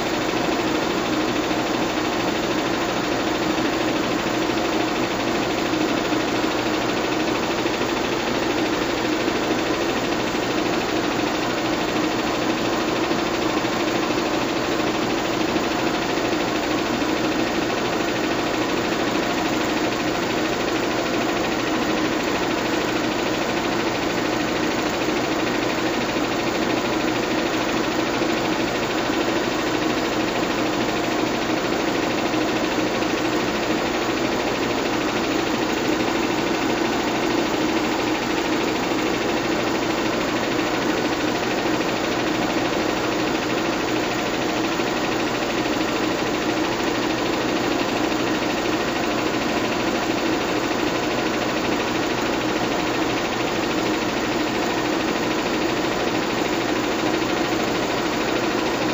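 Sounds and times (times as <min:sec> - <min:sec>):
film projector running: 0:00.0 - 0:58.9.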